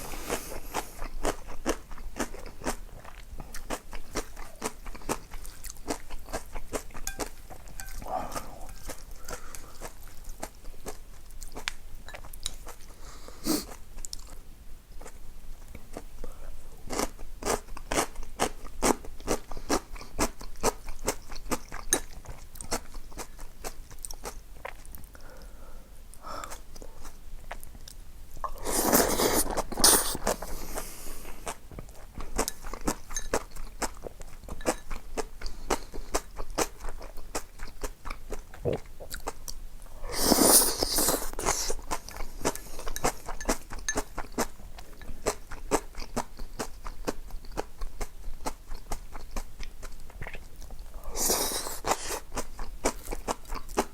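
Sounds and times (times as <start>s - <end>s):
person chewing crisp food: 0.0s - 14.4s, 15.0s - 25.5s, 26.4s - 53.9s.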